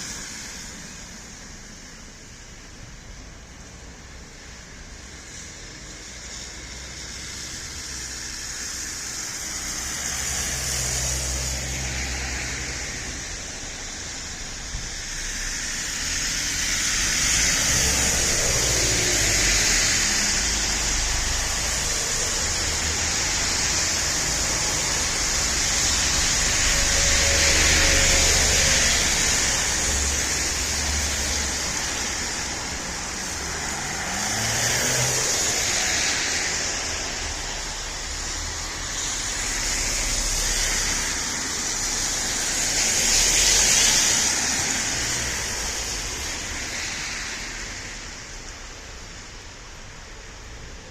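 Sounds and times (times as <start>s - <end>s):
steady road hiss: 0.0s - 50.9s
vehicles passing by: 0.0s - 50.9s.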